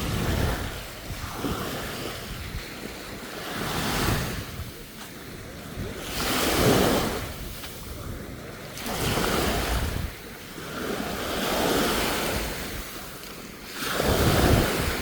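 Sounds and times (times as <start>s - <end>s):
ocean surf washing up: 0.0s - 15.0s
wind on microphone: 0.0s - 15.0s.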